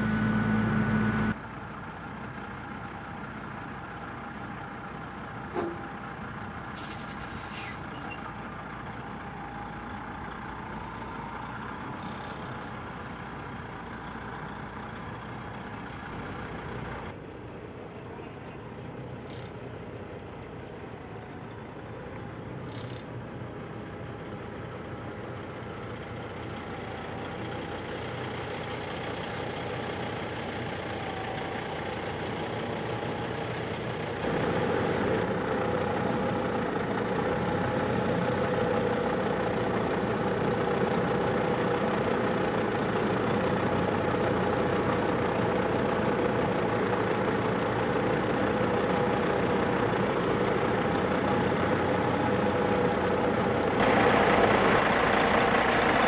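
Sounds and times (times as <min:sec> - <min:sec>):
truck diesel engine running: 0:00.0 - 0:18.2, 0:18.9 - 0:56.0.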